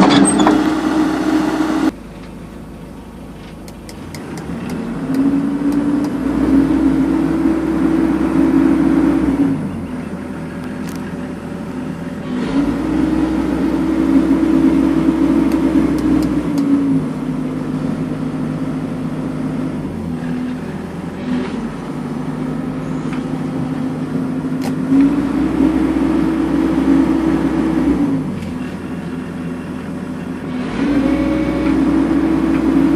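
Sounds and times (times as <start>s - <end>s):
excavator diesel engine revving: 0.0s - 2.0s, 2.7s - 32.9s.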